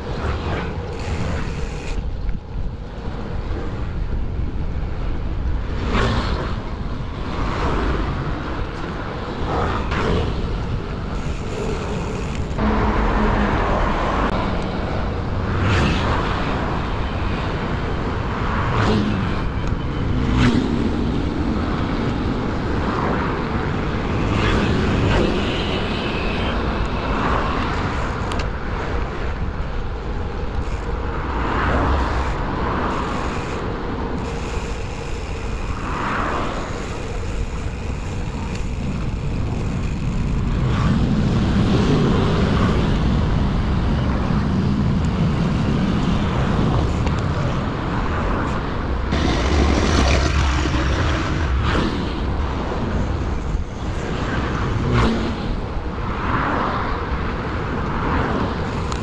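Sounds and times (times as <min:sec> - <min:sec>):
motor traffic and scooters passing: 0:00.0 - 0:59.0
wind rushing over microphone: 0:00.0 - 0:59.0.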